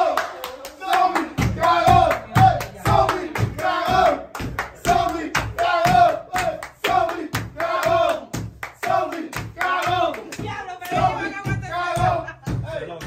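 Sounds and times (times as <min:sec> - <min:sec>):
group clapping in rhythm: 0:00.0 - 0:13.0
group singing or chanting: 0:00.0 - 0:13.0.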